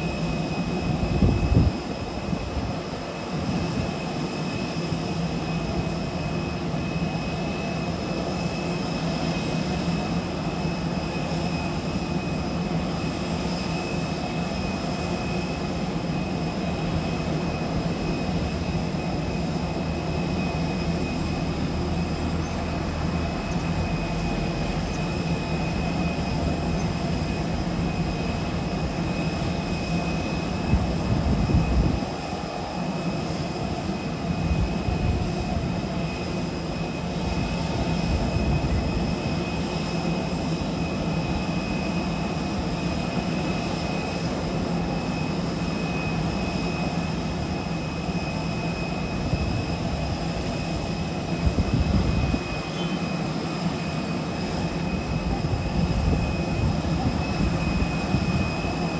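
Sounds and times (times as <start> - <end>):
airliner high whine: 0.0 - 58.9.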